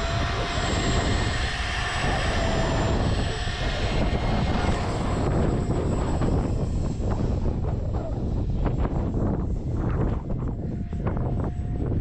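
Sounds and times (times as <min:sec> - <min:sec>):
electric jet high whine: 0:00.0 - 0:12.0
wind rumble on microphone: 0:00.0 - 0:12.0.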